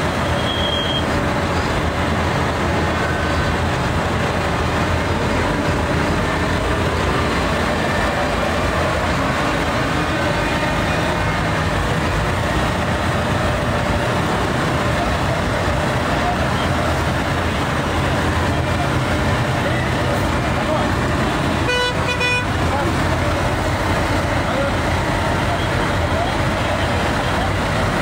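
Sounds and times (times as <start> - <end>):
tractor diesel engines idling: 0.0 - 28.0.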